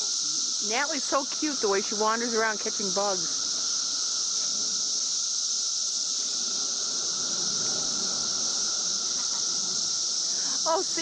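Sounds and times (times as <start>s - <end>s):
cicadas high-pitched buzz: 0.0s - 11.0s.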